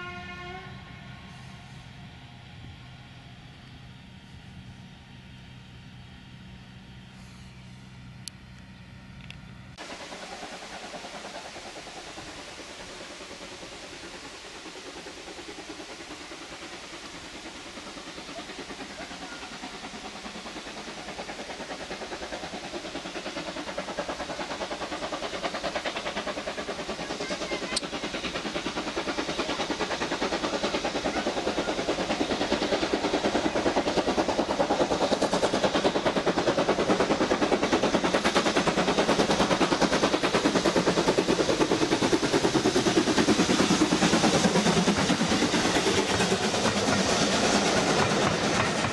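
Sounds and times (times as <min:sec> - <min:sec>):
steam locomotive exhaust beats: 0:00.0 - 0:48.9.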